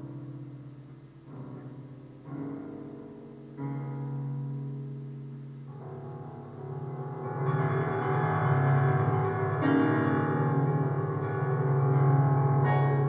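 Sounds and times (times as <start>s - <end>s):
digital piano playing: 0.0s - 13.0s.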